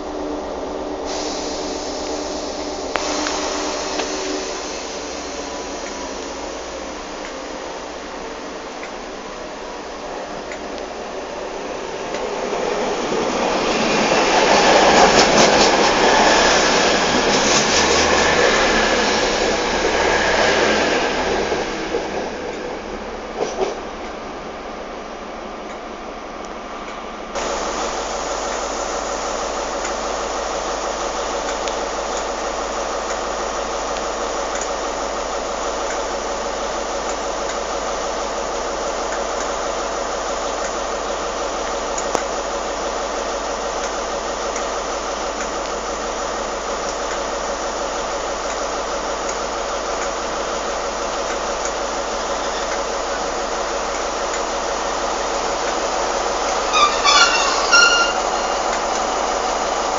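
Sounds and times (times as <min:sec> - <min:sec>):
rain hissing: 0:00.0 - 0:22.4, 0:27.4 - 0:59.9
train diesel engine running: 0:00.0 - 0:59.9.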